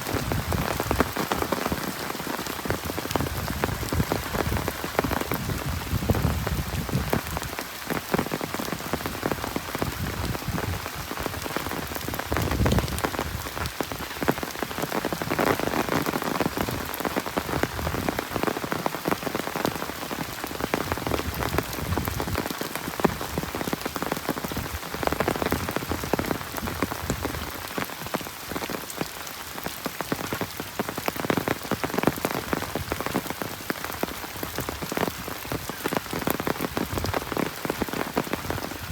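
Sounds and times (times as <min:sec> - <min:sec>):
heavy rain on road and trees: 0:00.0 - 0:38.9.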